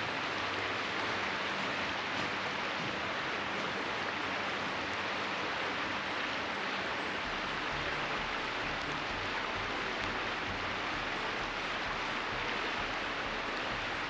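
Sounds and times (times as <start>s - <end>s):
fast-flowing river rushing: 0.0s - 14.0s.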